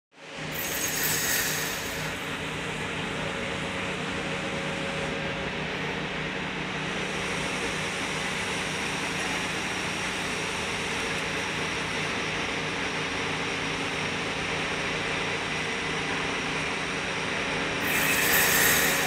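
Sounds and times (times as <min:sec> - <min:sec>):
droning hum with hiss: 0:00.2 - 0:19.0.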